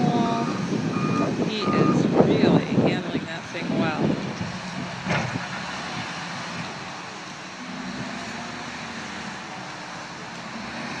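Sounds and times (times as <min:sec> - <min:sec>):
passing traffic: 0:00.0 - 0:11.0
wheel loader engine: 0:00.0 - 0:11.0.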